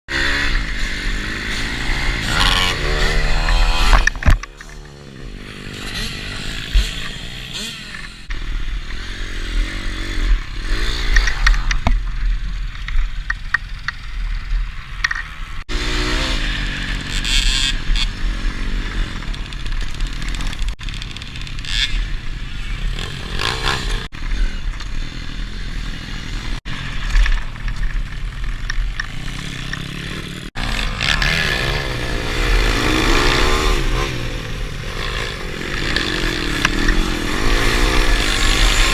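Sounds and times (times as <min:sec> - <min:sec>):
pit bike engine revving: 0:00.1 - 0:12.0, 0:14.9 - 0:27.1, 0:28.9 - 0:38.9.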